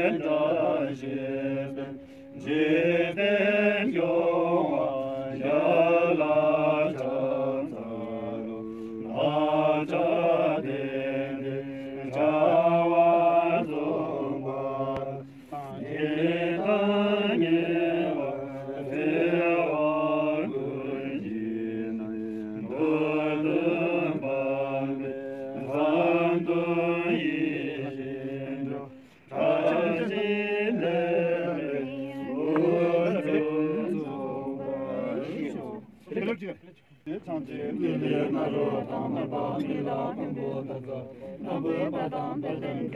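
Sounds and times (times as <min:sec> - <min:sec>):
monks chanting in unison: 0:00.0 - 0:36.4, 0:37.1 - 0:42.9.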